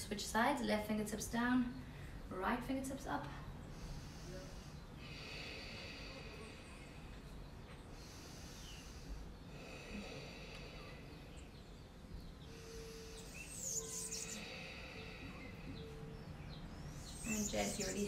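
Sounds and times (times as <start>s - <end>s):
birds chirping: 3.4s - 18.0s.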